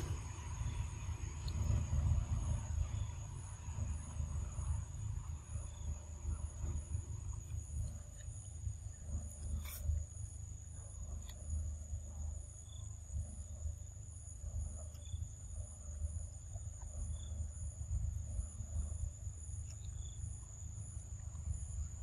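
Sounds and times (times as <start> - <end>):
insects chirring: 0.0 - 22.0
low rumble: 0.0 - 22.0.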